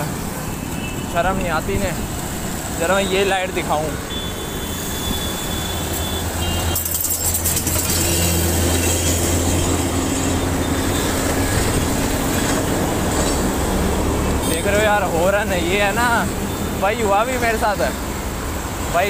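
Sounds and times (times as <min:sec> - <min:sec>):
heavy vehicle engines droning: 0:00.0 - 0:19.0
road noise: 0:00.0 - 0:19.0.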